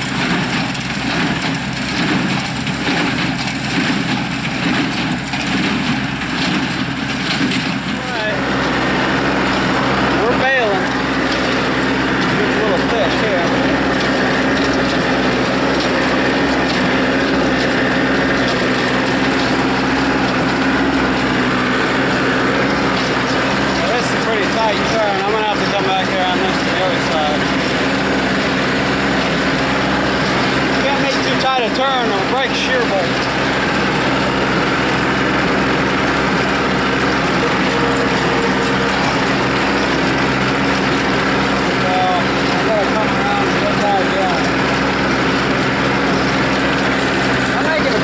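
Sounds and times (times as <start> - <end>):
hay baler baling: 0.0 - 48.0
tractor engine running: 0.0 - 48.0.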